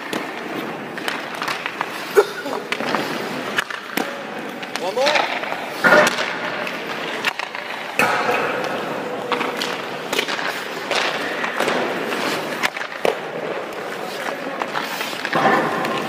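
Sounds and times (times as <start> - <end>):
skate blades scraping ice: 0.0 - 16.0
stick and puck knocks: 0.0 - 16.0.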